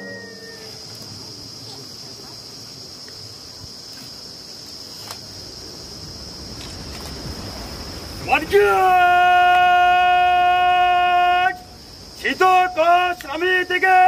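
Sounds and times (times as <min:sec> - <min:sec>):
insects shrilling: 0:00.0 - 0:14.0
low outdoor murmur: 0:00.0 - 0:14.0.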